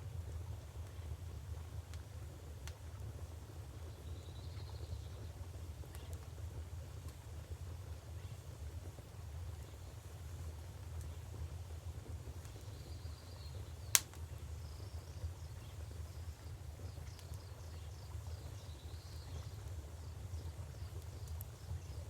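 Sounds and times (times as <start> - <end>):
wood fire crackling pop: 0.0 - 22.0.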